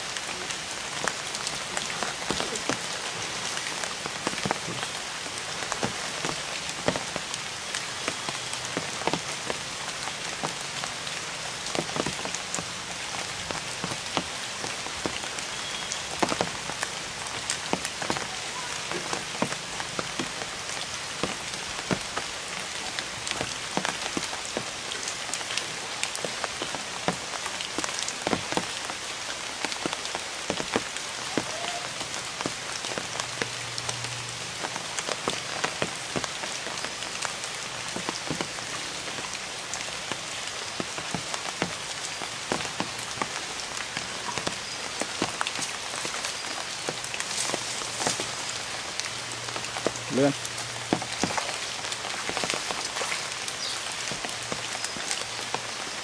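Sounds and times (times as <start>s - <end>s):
water pattering on pond: 0.0s - 56.0s.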